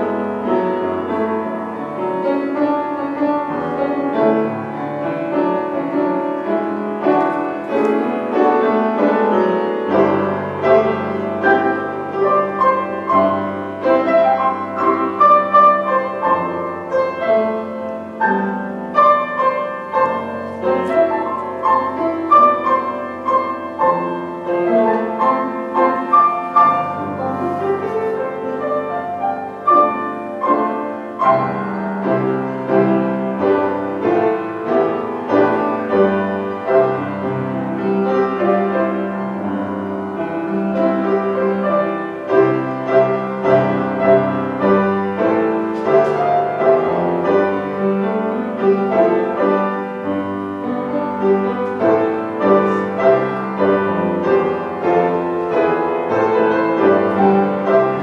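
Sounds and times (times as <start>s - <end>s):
upright piano playing chords: 0.0s - 58.0s.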